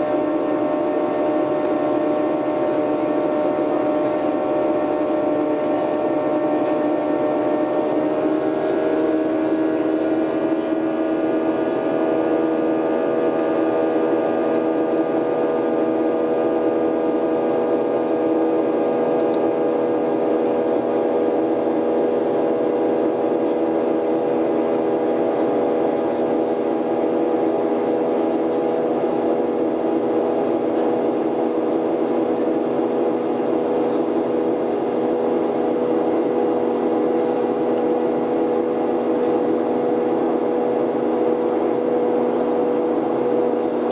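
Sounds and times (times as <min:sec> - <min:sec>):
jet engine drone in cabin: 0:00.0 - 0:43.9.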